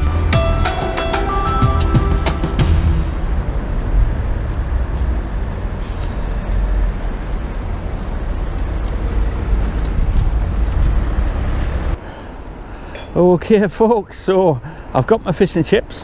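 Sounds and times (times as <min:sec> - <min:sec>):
low outdoor rumble: 0:02.8 - 0:15.8.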